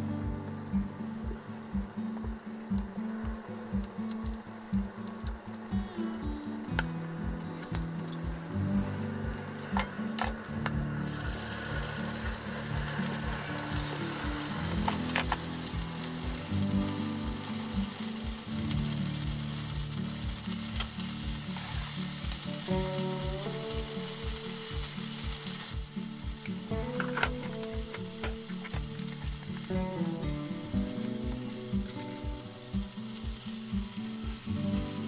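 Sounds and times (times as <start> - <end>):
food sizzling in oil: 0.0 - 35.0.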